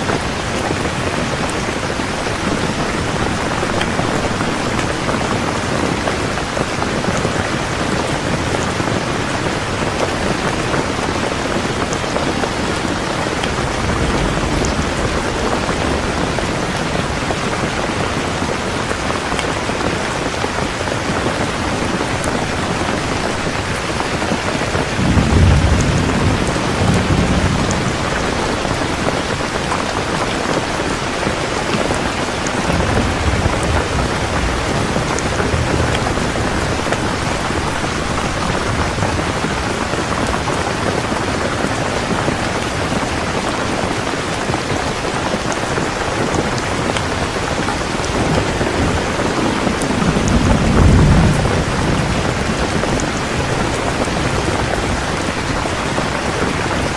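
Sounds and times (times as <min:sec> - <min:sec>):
heavy rain: 0:00.0 - 0:56.9
thunder rumbling: 0:00.1 - 0:56.9.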